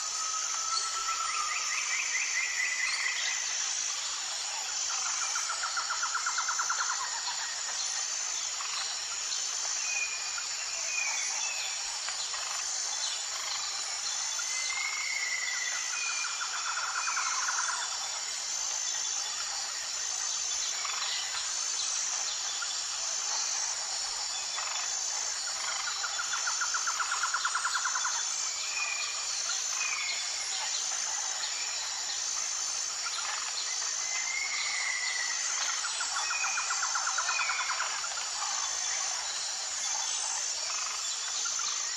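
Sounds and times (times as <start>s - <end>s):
high insect drone: 0.0s - 41.9s.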